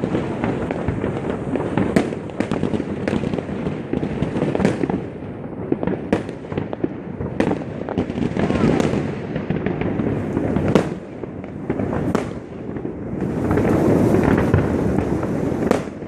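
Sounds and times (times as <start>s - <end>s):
firecrackers crackling: 0.0s - 16.0s
loud firework bangs: 0.0s - 16.0s.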